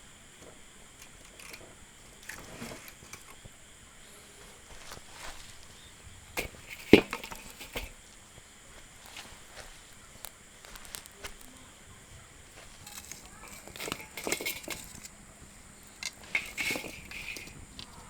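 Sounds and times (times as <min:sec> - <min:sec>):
dry firewood cracking: 0:00.0 - 0:18.0.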